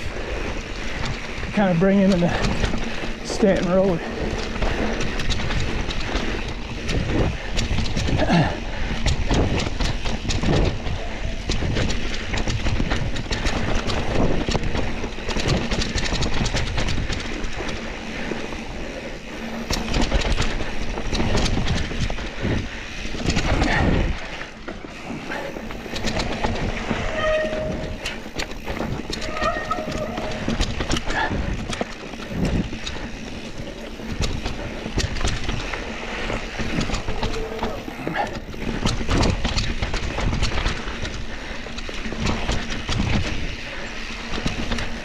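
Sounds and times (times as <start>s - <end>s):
bike frame and chain rattling: 0.0s - 45.0s.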